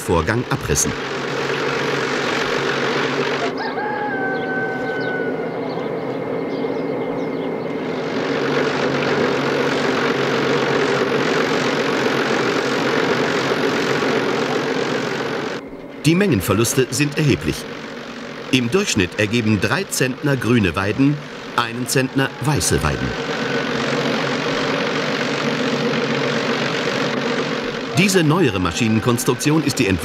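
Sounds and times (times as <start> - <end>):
machine drum humming: 0.0 - 3.7, 7.6 - 30.0.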